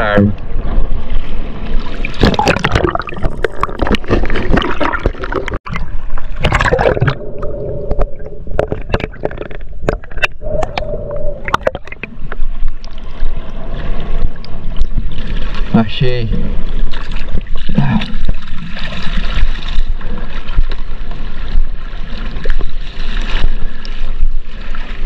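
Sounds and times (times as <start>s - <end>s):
water splashing and gurgling: 0.6s - 25.0s.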